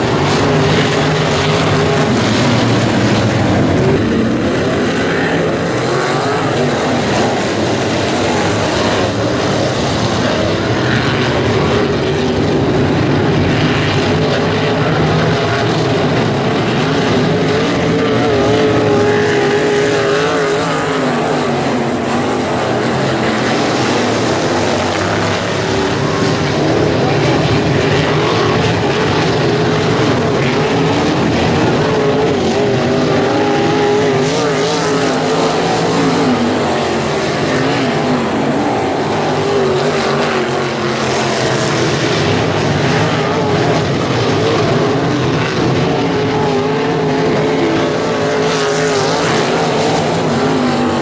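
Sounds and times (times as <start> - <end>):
racing car engines droning: 0.0 - 51.0.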